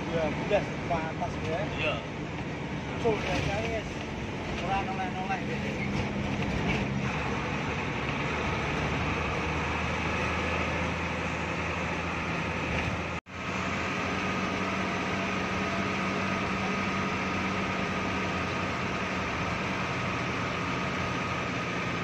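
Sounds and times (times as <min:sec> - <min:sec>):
bus engine running: 0:00.0 - 0:22.0
road and drivetrain noise: 0:00.0 - 0:22.0.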